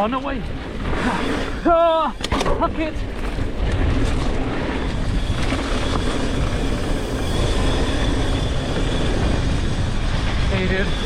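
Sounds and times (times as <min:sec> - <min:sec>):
bike rumbling and rattling: 0:00.0 - 0:11.0
wind on microphone: 0:00.0 - 0:11.0.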